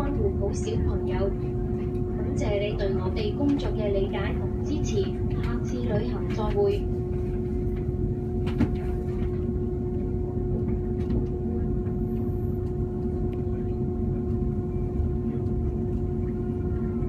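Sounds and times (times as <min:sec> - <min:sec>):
constant hum: 0:00.0 - 0:17.0
train running rumble: 0:00.0 - 0:17.0.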